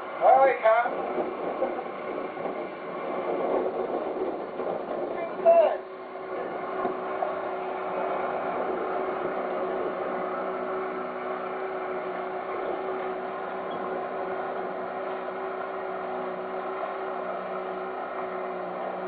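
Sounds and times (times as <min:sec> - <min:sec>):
speedboat engine running: 0:00.0 - 0:19.0.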